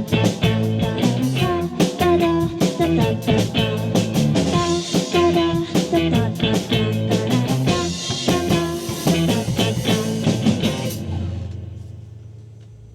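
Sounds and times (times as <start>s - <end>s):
electric guitar: 0.0s - 11.9s
bass guitar: 0.0s - 12.9s
drums with steady beat: 0.0s - 12.9s.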